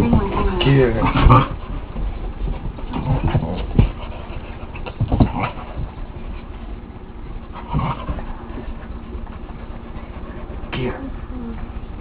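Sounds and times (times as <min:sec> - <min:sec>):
dogs play-fighting: 0:00.0 - 0:12.0.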